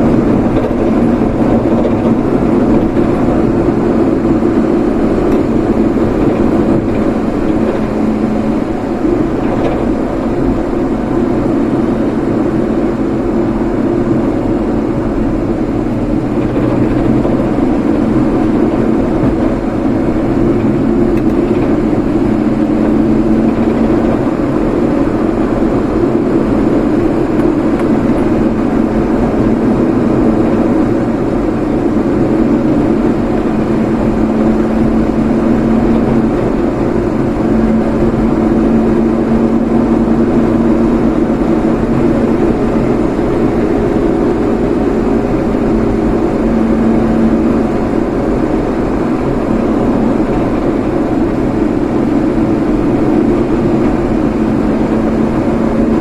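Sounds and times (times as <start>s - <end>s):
road rumble: 0.0s - 56.0s
vehicle engine drone: 0.0s - 56.0s.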